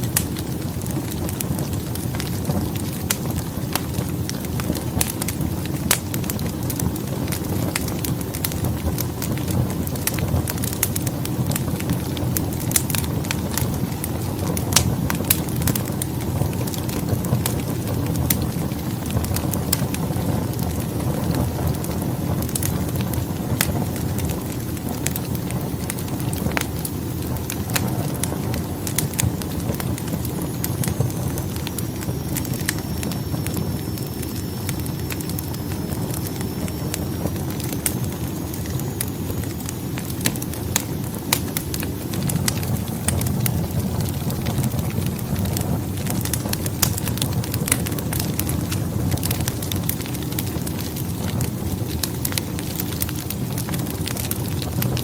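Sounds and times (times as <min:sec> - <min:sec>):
fire rumbling: 0:00.0 - 0:55.0
logs crackling and popping: 0:00.0 - 0:55.0.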